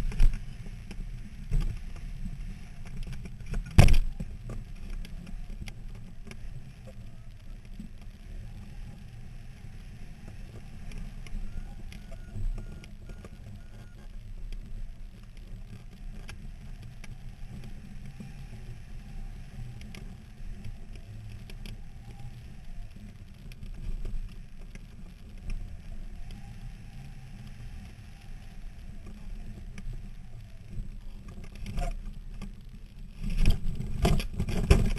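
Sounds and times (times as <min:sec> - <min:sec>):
faint clicks: 0:00.0 - 0:34.9
wind rumbling on microphone: 0:00.0 - 0:34.9.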